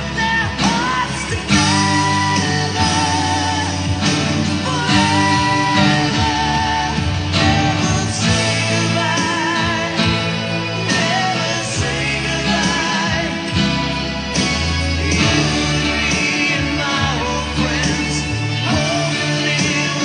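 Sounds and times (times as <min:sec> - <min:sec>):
guitar: 0:00.0 - 0:20.0
person singing with vibrato: 0:00.0 - 0:20.0
sustained bass notes: 0:00.0 - 0:20.0.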